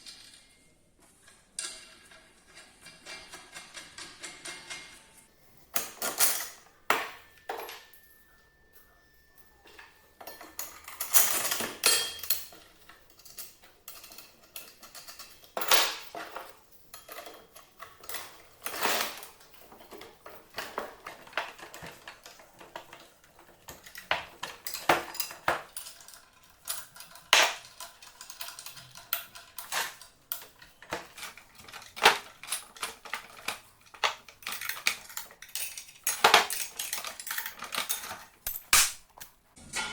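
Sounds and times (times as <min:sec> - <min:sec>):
metal tools clinking: 0:00.0 - 0:39.0.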